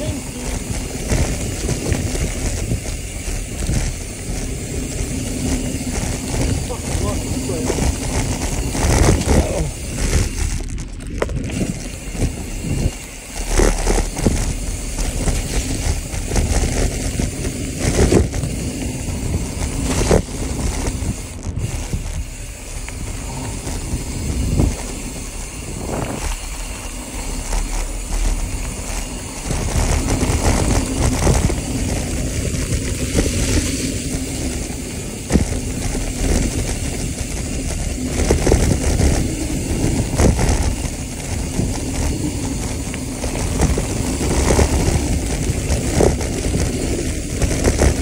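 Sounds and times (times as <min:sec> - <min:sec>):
bike knocks and rattles: 0:00.0 - 0:48.0
bike rumble: 0:00.0 - 0:48.0
bike tyres crunching over dirt: 0:00.0 - 0:48.0.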